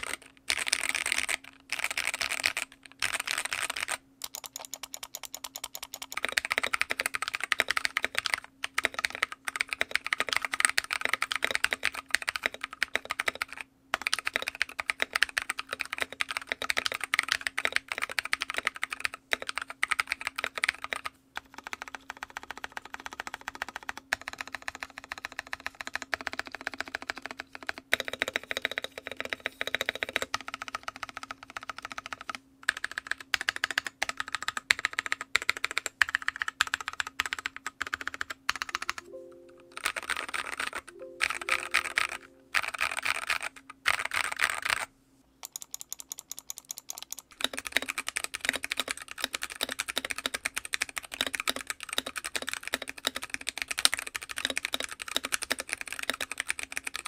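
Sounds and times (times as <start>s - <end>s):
fast typing on mechanical keyboard: 0.0s - 39.1s, 39.7s - 57.0s.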